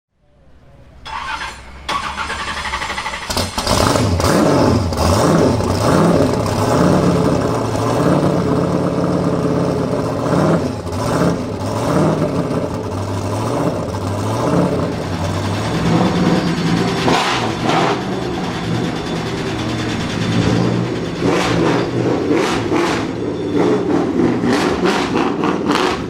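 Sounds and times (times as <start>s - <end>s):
car engine revving hard: 1.2s - 26.0s.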